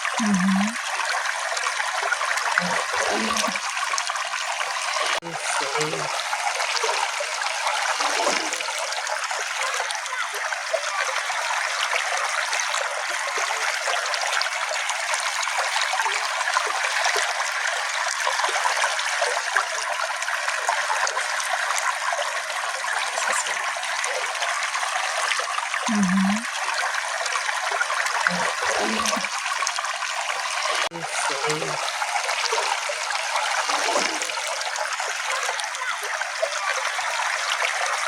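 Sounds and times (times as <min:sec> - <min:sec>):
stream trickling and splashing: 0:00.0 - 0:38.0.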